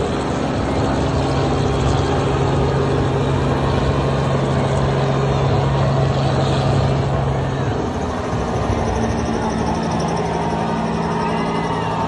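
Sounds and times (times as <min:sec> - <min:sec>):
helicopter idling: 0:00.0 - 0:12.0.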